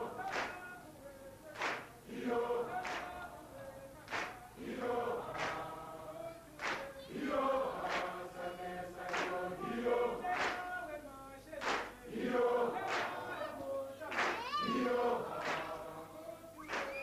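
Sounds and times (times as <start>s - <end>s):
group singing choral chant: 0.0s - 17.0s.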